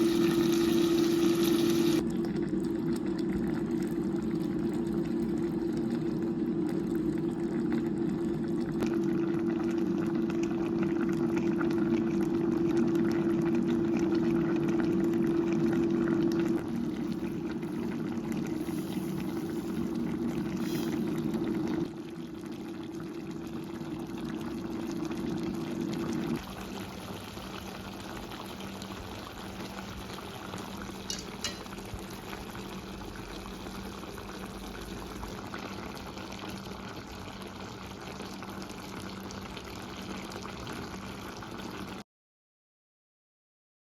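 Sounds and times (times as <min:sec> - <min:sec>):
liquid boiling in a pot: 0:00.0 - 0:42.0.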